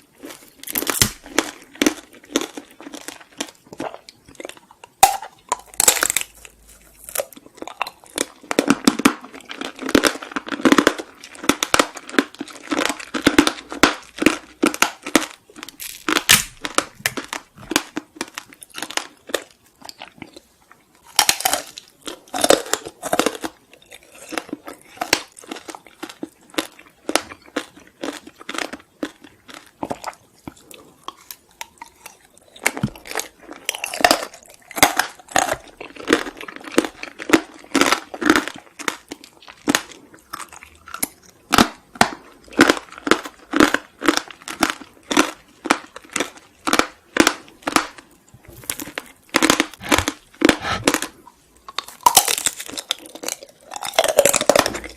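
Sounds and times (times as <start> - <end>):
close crunching and chewing: 0.0 - 54.9.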